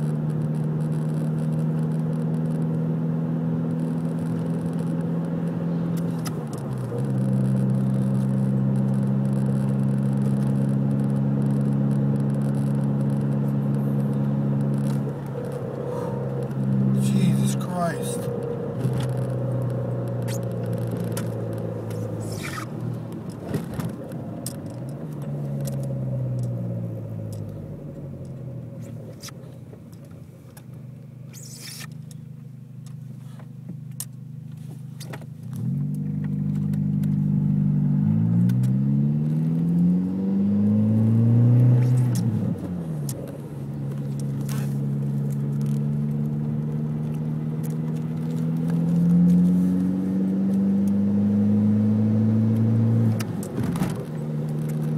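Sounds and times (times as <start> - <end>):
car engine revving: 0.0 - 29.6, 34.6 - 54.9.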